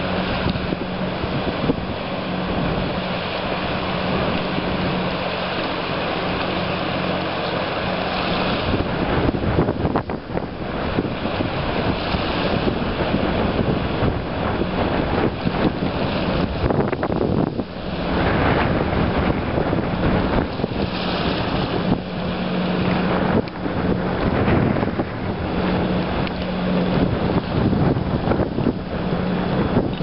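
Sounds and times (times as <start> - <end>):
boat engine hum: 0.0 - 30.0
wind buffeting microphone: 0.0 - 30.0.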